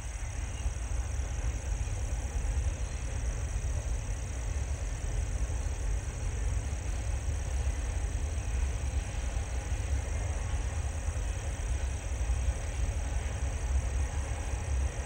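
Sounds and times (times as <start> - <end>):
distant freight train rumbling: 0.0 - 15.0.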